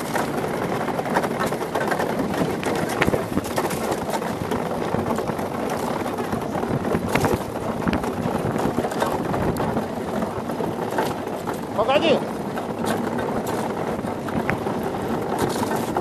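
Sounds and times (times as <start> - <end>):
knocks from hull and rigging: 0.0 - 16.0
runners grinding on ice: 0.0 - 16.0
rush of wind: 0.0 - 16.0.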